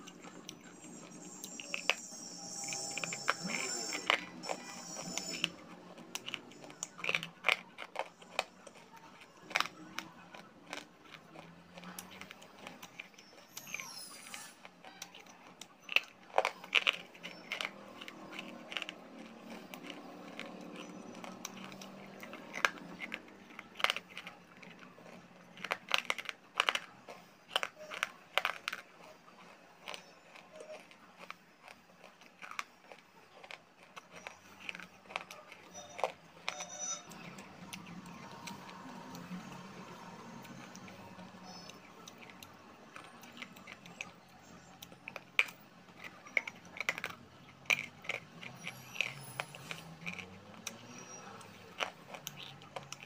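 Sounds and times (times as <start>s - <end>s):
quiet chewing: 0.0s - 53.0s.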